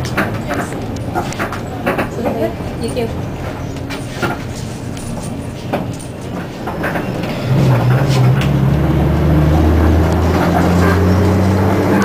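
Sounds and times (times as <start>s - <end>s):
bus engine drone: 0.0s - 12.0s
bus road rumble: 0.0s - 12.0s.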